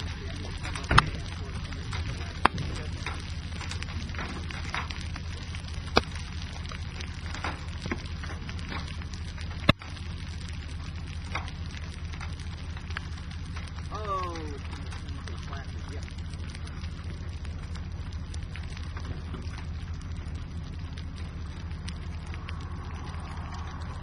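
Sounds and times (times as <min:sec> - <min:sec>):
hail and rain falling: 0:00.0 - 0:24.0
sharp ticks and clicks: 0:00.0 - 0:24.0.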